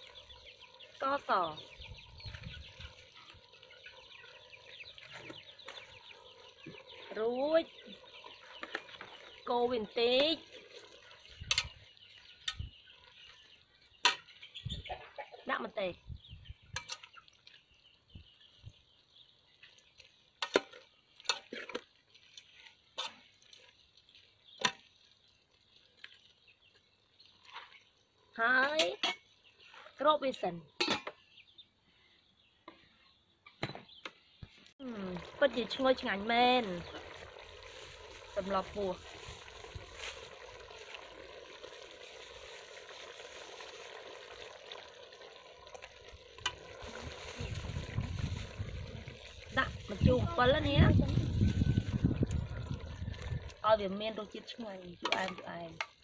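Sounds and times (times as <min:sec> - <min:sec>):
stew bubbling: 0:00.0 - 0:15.2, 0:15.8 - 0:30.1, 0:34.4 - 0:56.0.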